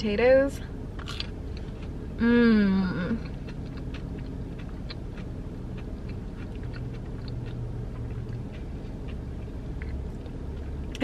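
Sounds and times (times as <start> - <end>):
faint low hum: 0.0 - 11.0
person chewing food: 1.0 - 2.2, 3.1 - 11.0.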